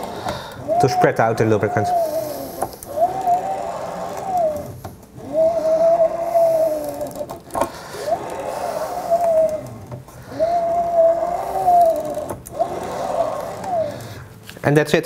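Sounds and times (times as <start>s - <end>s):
printer axis whirring whine: 0.0s - 15.0s.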